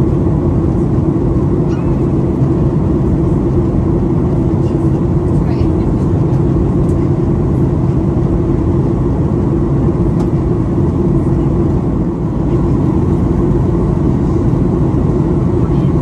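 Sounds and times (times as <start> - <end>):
airflow: 0.0 - 16.0
jet engines rumbling in cabin: 0.0 - 16.0.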